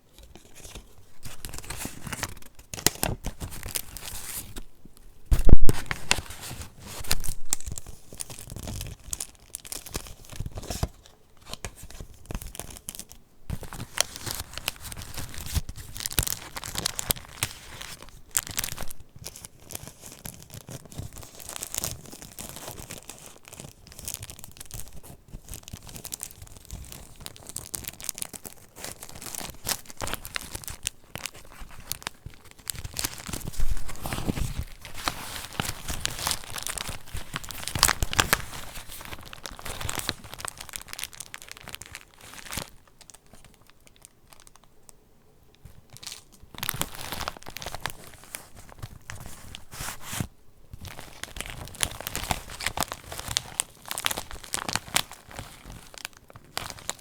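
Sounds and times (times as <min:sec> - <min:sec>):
paper pages rustling and crinkling: 0:00.0 - 0:43.6, 0:45.7 - 0:57.0.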